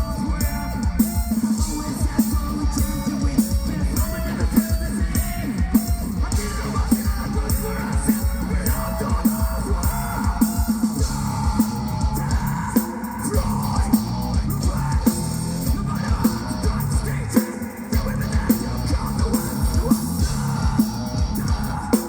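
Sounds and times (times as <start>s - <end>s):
electric guitars: 0.0s - 22.0s
hard-hitting drum kit: 0.0s - 22.0s.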